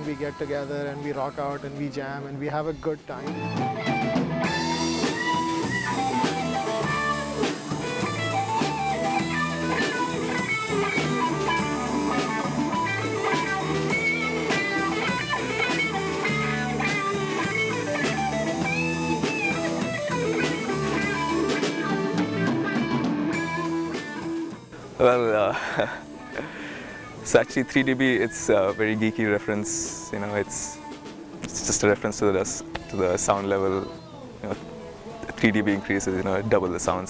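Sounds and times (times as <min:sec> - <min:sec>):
drum kit steady beat: 0:00.0 - 0:37.0
electric guitar lines: 0:00.0 - 0:37.0.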